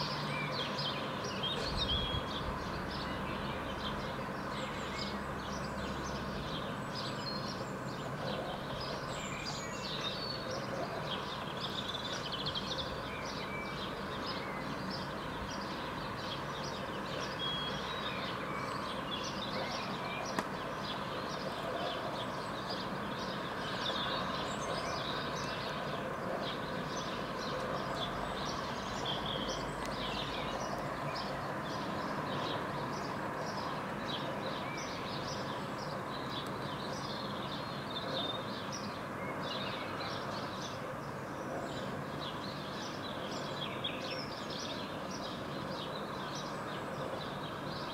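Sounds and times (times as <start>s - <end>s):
songbirds chirping: 0.0s - 47.9s
traffic hum: 0.0s - 47.9s.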